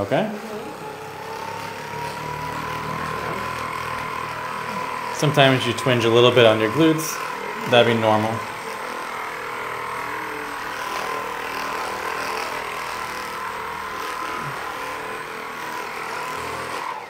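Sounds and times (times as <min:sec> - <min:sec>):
massage gun whine: 0:00.0 - 0:17.0.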